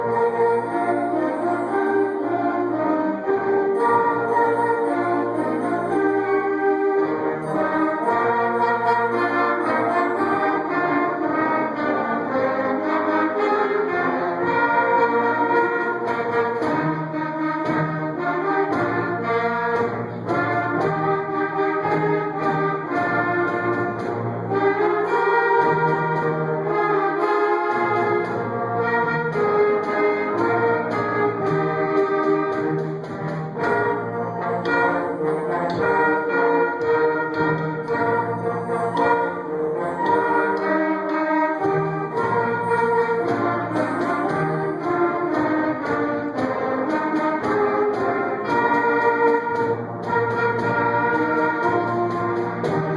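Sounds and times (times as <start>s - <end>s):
brass band playing a march: 0.0s - 52.9s.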